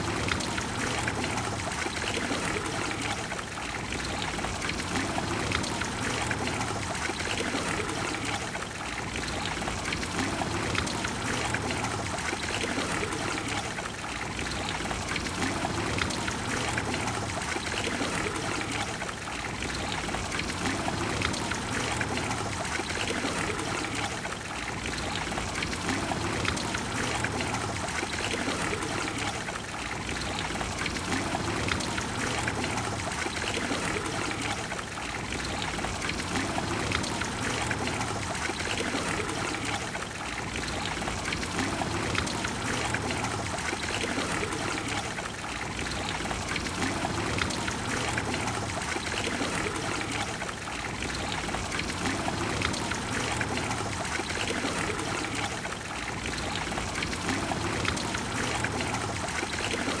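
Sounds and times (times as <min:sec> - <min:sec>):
fountain water splashing: 0:00.0 - 1:00.0.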